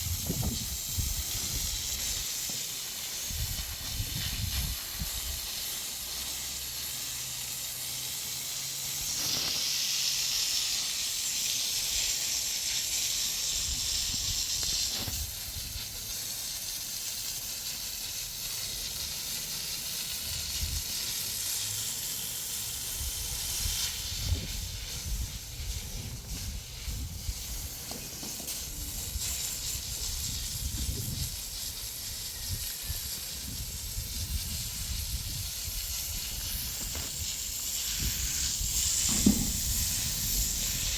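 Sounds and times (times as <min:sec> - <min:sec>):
steady hissing: 0:00.0 - 0:40.9.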